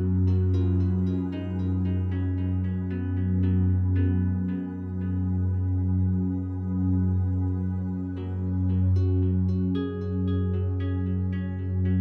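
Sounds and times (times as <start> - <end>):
low drone: 0.0 - 12.0
sustained music tones: 0.0 - 12.0.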